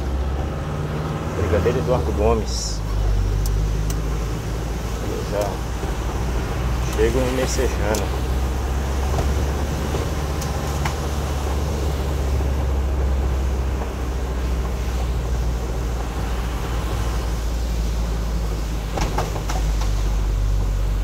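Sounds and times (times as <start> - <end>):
car engine and road rumble: 0.0 - 21.0
tyres hissing on wet road: 0.0 - 21.0.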